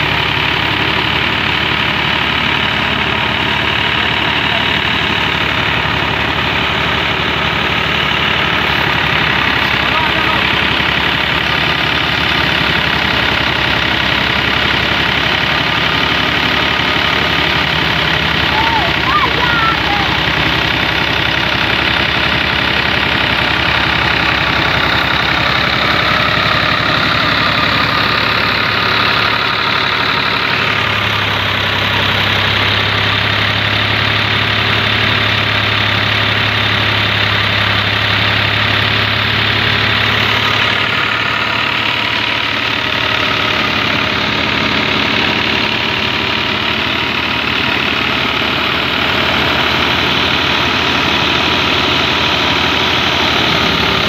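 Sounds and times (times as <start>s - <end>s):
thresher running: 0.0s - 54.0s
tractor diesel engine under load: 0.0s - 54.0s.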